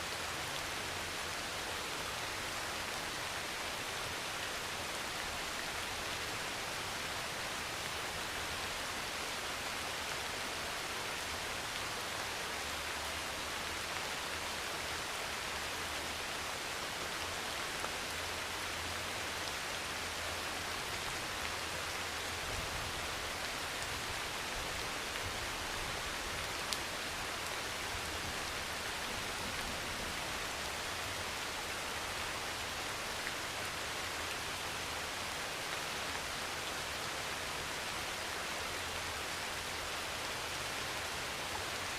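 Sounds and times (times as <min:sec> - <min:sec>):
heavy rain on a metal roof: 0:00.0 - 0:41.9.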